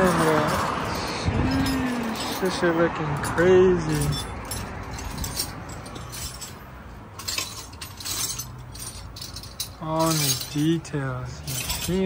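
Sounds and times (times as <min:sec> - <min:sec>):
hand tools and metal parts clinking: 0:00.0 - 0:12.0.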